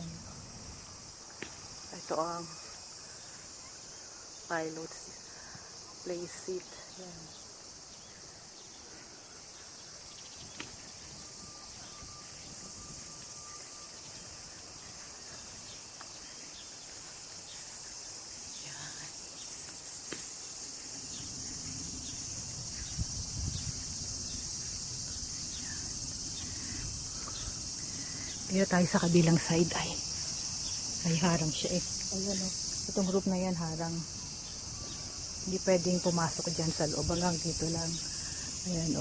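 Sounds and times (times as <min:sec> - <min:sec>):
insects shrilling: 0:00.0 - 0:39.0.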